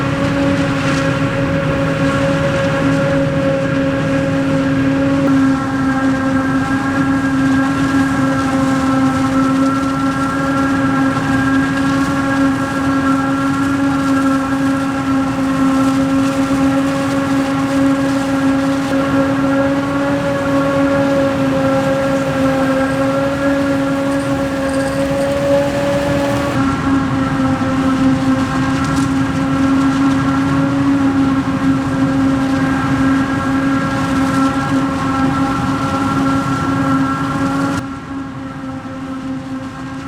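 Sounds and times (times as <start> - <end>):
low mechanical rumble: 0.0 - 40.0
steady motor whine: 0.0 - 40.0.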